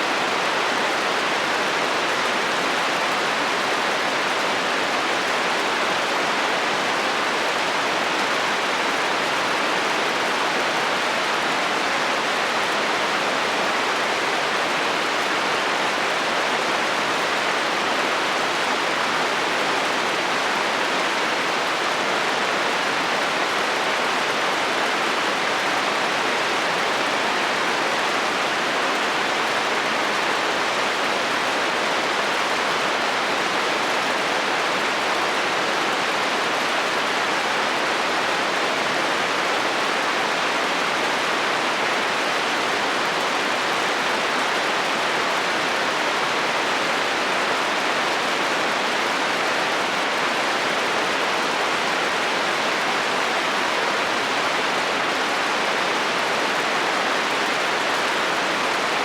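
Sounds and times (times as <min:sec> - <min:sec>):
heavy rain on a metal roof: 0:00.0 - 0:59.0.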